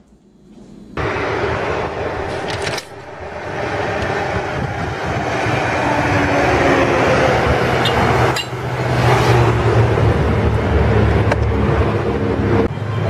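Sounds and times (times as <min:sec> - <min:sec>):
road traffic hum: 0:00.8 - 0:13.0.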